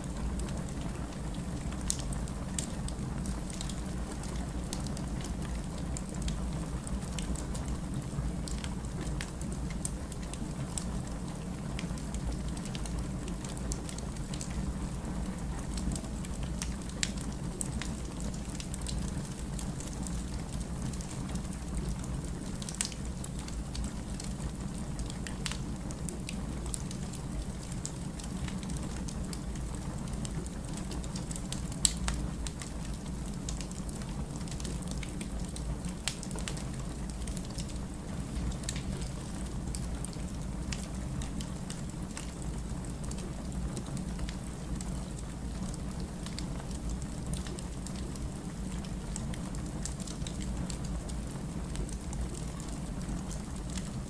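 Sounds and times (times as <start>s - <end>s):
fire rumbling: 0.0s - 53.9s
fire crackling and popping: 0.0s - 54.0s.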